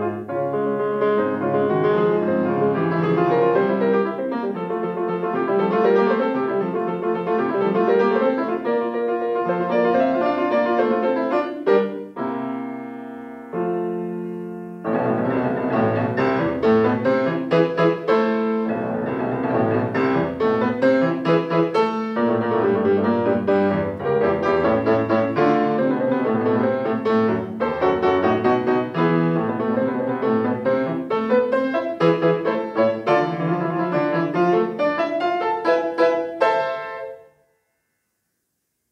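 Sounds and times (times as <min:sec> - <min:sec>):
solo grand piano piece: 0:00.0 - 0:38.4.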